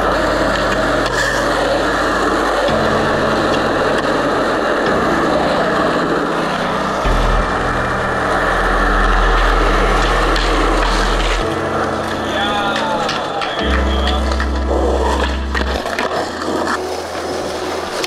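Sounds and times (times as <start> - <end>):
low drone: 0.0 - 18.0
skateboard wheels rolling on asphalt: 0.0 - 18.0.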